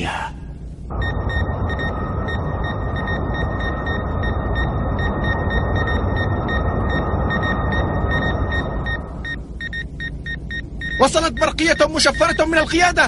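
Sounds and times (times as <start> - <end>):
low rumble of spaceship engines: 0.0 - 13.0
high electronic beeps: 0.9 - 12.9.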